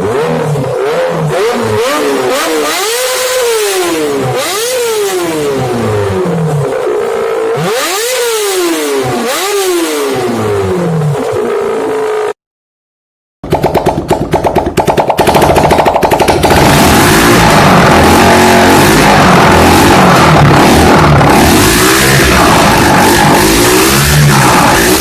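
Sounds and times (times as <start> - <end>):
small petrol engine revving: 0.0 - 12.4, 13.8 - 25.0.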